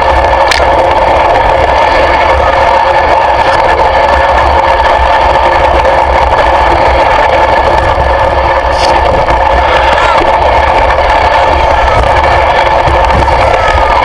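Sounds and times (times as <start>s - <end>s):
loud engine running: 0.0s - 14.0s.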